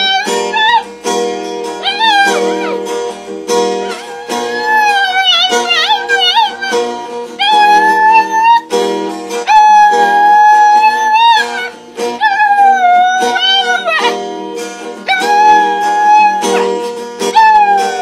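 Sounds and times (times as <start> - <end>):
dog howling: 0.0 - 0.8, 1.8 - 2.9, 3.7 - 8.6, 9.4 - 14.2, 15.0 - 18.0
strummed acoustic guitar: 0.0 - 18.0.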